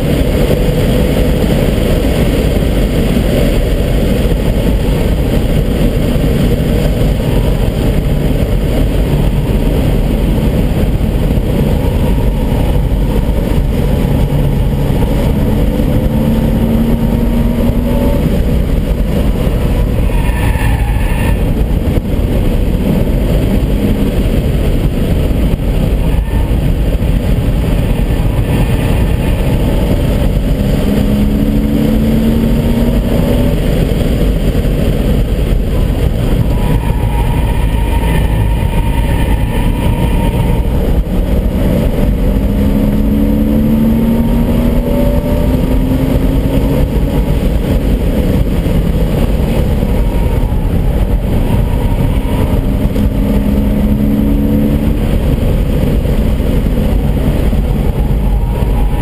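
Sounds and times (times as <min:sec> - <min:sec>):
heavy steady rumble: 0:00.0 - 0:59.0
sports car engine revving: 0:00.0 - 0:59.0.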